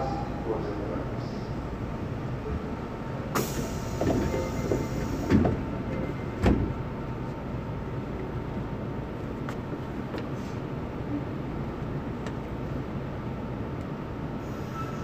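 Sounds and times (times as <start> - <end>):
low train car hum: 0.0 - 15.0.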